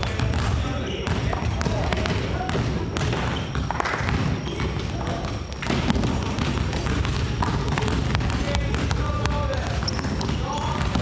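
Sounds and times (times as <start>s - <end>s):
basketballs bouncing on wooden floor: 0.0s - 11.0s.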